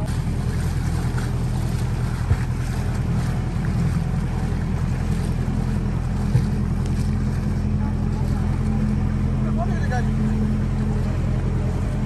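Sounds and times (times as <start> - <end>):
vehicle engine running: 0.0 - 12.0
water washing around vehicle: 0.0 - 12.0.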